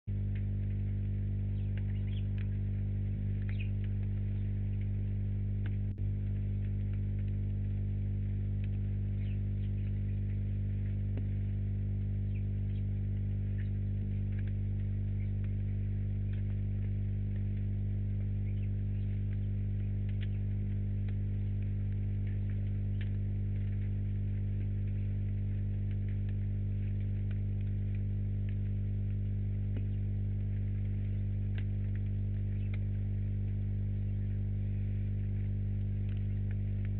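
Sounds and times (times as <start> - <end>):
electrical mains hum: 0.1 - 36.9
faint ticks: 0.1 - 36.9.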